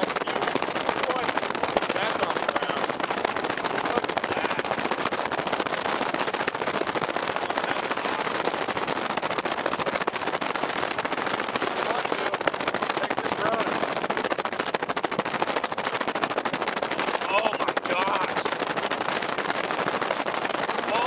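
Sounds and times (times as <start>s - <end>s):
dense steady crackling: 0.0s - 21.0s.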